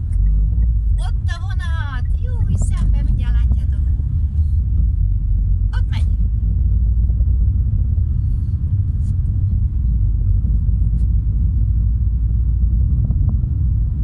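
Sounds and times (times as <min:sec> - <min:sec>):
car road rumble from inside: 0:00.0 - 0:14.0.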